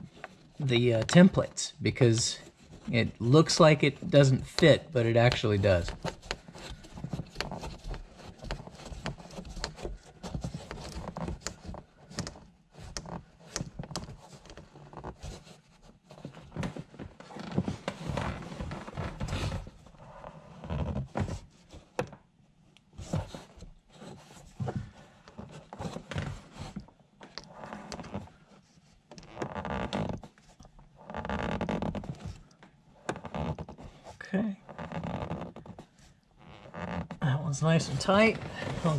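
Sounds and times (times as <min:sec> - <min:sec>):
gloved hand rubbing and scraping: 0:00.0 - 0:22.0, 0:22.8 - 0:38.9.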